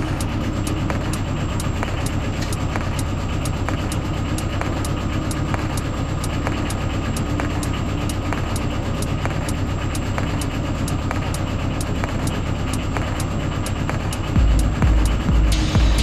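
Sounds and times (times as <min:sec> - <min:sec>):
fuel pump ticking: 0:00.0 - 0:16.0
heater fan and burner rumbling: 0:00.0 - 0:16.0.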